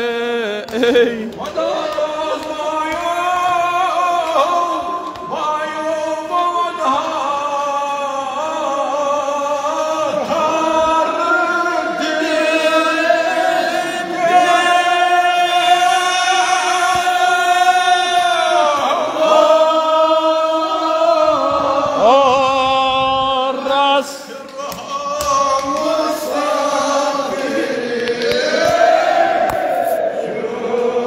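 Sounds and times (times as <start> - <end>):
man chanting into microphone: 0.0 - 28.8.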